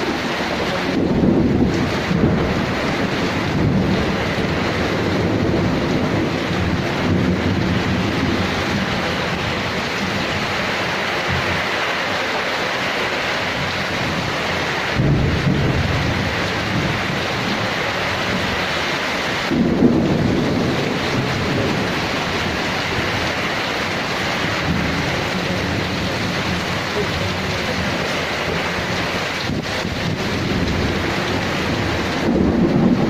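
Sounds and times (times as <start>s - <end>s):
thunder rumbling: 0.0s - 11.9s, 13.0s - 33.0s
heavy rain falling: 0.0s - 33.0s.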